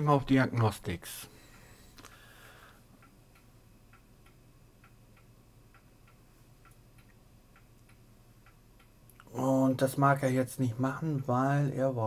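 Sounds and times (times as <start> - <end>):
faint ticking in pairs: 0.5 - 11.8.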